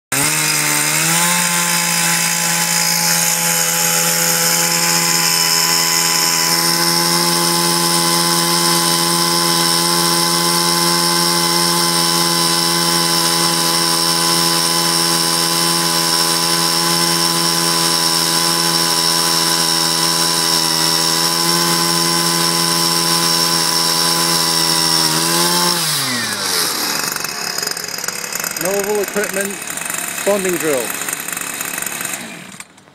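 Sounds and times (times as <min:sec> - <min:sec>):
drill boring into steel: 0:00.1 - 0:32.9
two-stroke drill engine revving: 0:00.1 - 0:32.9.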